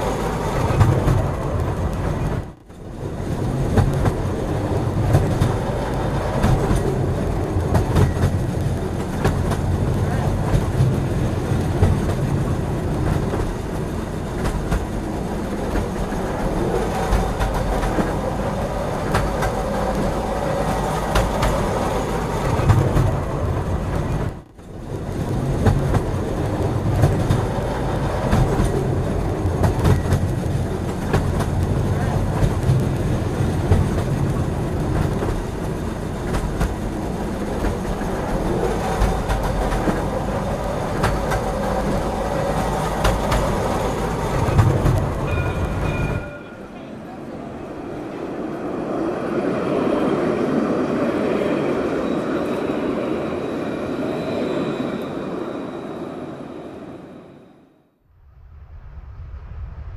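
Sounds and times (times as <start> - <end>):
train rumbling along track: 0.0 - 57.8.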